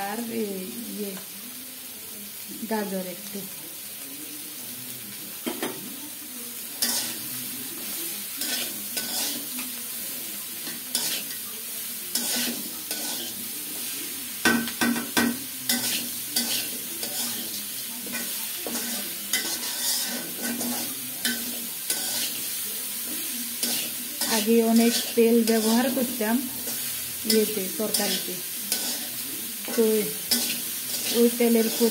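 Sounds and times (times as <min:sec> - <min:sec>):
vegetables sizzling in a pan: 0:00.0 - 0:31.9.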